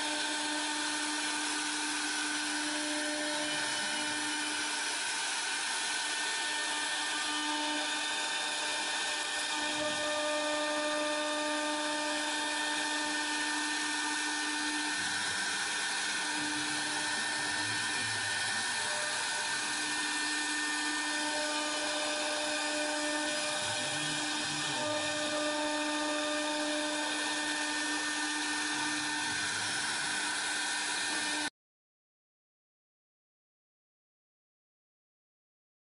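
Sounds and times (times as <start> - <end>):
router spindle whining while cutting: 0.0 - 31.5.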